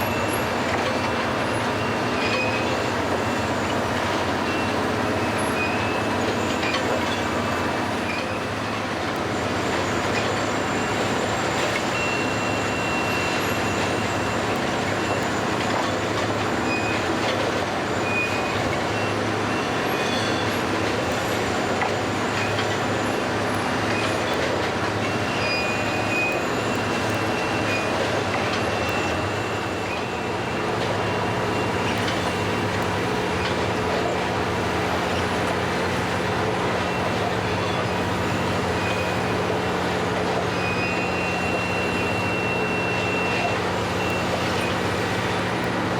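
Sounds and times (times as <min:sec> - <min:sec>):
high-pitched metallic squeals: 0:00.0 - 0:45.9
train machinery humming: 0:00.0 - 0:45.9.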